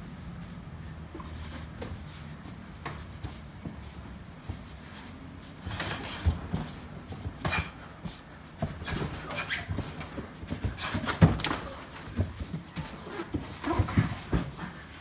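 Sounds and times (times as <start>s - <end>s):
feet thudding and shuffling: 0.0s - 15.0s.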